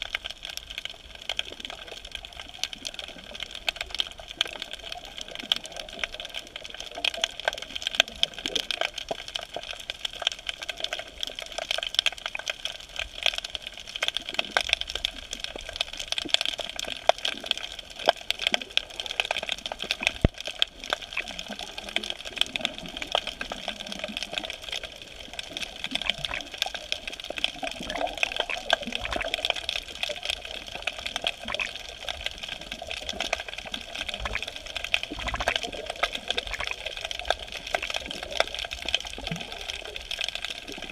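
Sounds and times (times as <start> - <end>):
underwater crackle of clicks: 0.0 - 40.9.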